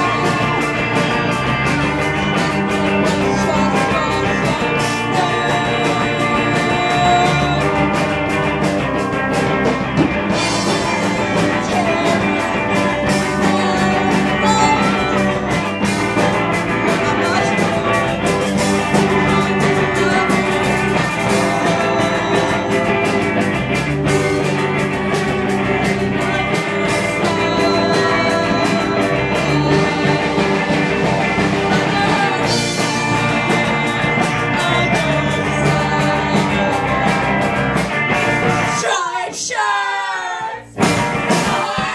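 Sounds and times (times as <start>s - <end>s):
drum beat: 0.0s - 38.9s, 40.6s - 41.9s
electric guitars: 0.0s - 41.9s.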